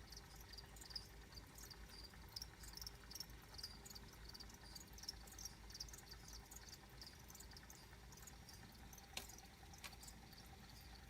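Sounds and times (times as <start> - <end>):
crickets chirping: 0.0 - 11.0
low steady hum: 0.0 - 11.0.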